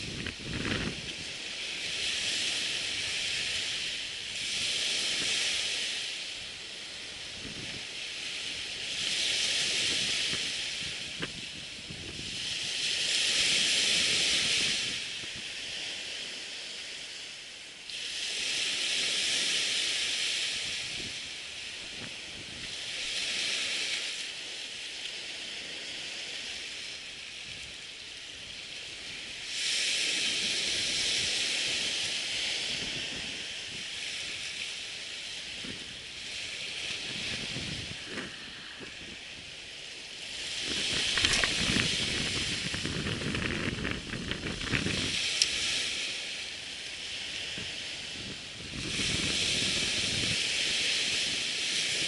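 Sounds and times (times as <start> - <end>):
surf washing onto beach: 0.0 - 52.0.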